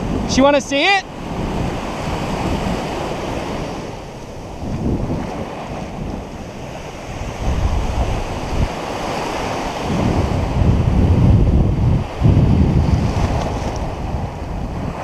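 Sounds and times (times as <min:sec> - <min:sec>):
surf washing in and out: 0:00.0 - 0:15.0
wind rumbling on microphone: 0:00.0 - 0:15.0.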